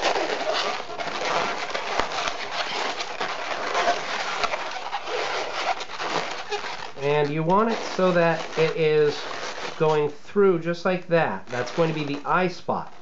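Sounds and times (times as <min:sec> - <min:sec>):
balloons squeaking and rubbing: 0:00.0 - 0:13.0.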